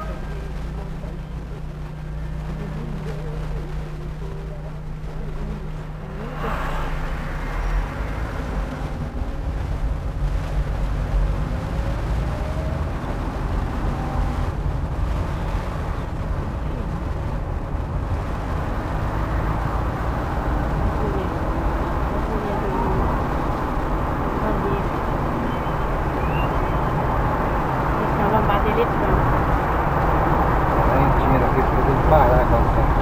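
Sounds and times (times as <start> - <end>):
car engine and road rumble: 0.0 - 33.0
faint engine whine: 0.0 - 33.0.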